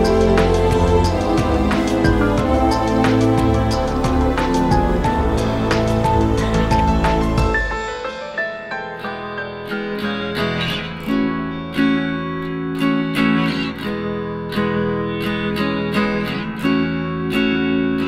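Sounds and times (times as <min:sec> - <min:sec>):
plucked acoustic guitar music: 0:00.0 - 0:18.0.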